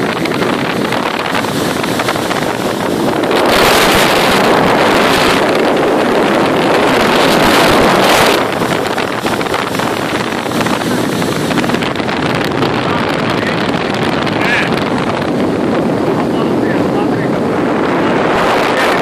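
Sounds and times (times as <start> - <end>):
water rushing off boat hull: 0.0 - 19.0
wind buffeting microphone: 0.0 - 19.0.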